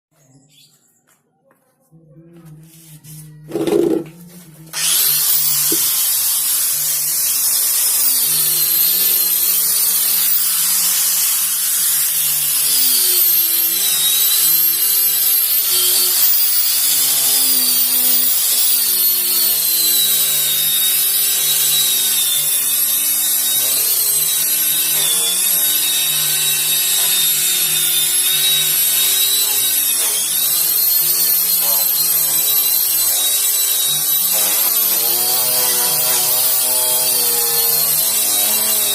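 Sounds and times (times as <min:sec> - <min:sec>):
electric sander on wood: 0:02.8 - 0:38.9.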